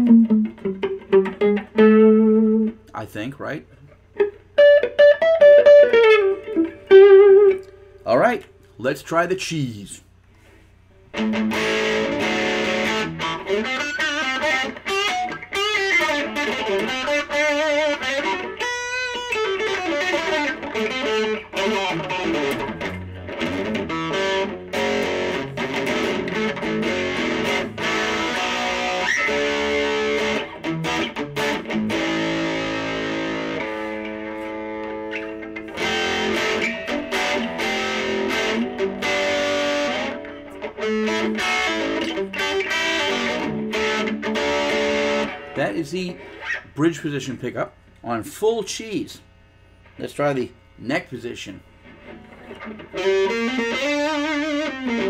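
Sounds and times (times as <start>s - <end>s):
electric guitar through amp: 0.0s - 3.0s, 3.8s - 8.5s, 11.1s - 49.0s, 49.6s - 55.0s.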